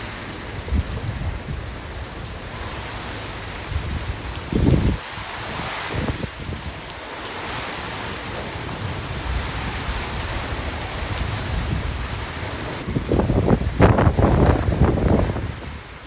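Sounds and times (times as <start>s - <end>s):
rushing rain or surf: 0.0s - 16.0s
storm wind: 0.0s - 16.0s
wind gusts buffeting microphone: 0.0s - 16.0s.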